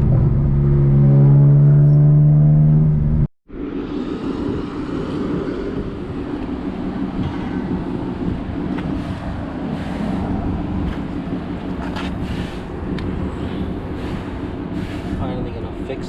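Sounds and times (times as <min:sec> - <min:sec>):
car engine and road noise drone: 0:00.0 - 0:16.0.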